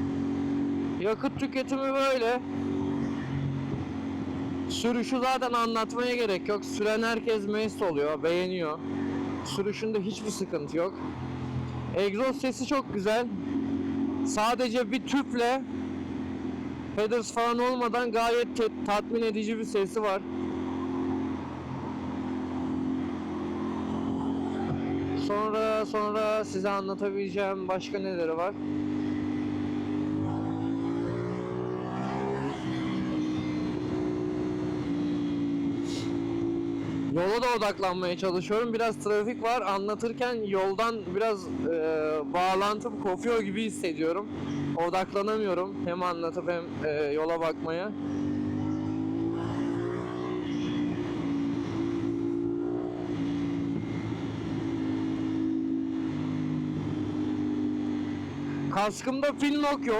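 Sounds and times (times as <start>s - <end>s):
motorcycle engine under throttle: 0.0s - 40.4s, 41.3s - 59.9s
road noise: 0.0s - 59.9s.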